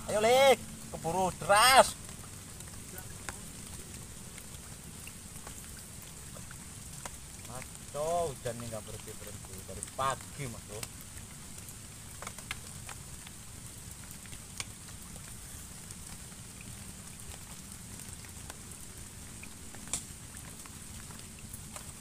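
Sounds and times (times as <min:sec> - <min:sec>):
sharp ticks of raindrops: 0:00.0 - 0:22.0
steady rain on a pond: 0:00.0 - 0:22.0.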